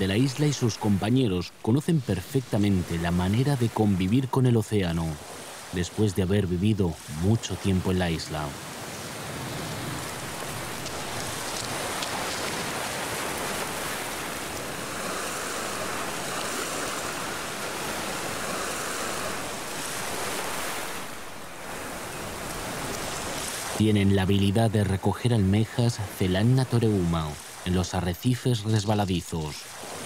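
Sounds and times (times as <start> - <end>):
surf breaking over rocks: 0.0 - 24.5.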